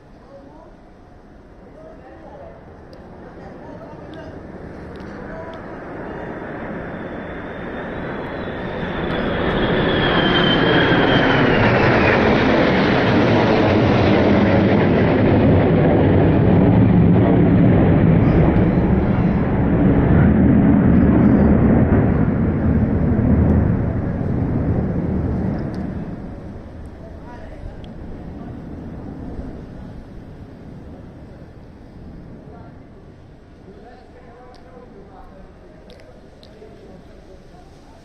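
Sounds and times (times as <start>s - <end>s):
jets flying past overhead: 2.5s - 34.0s.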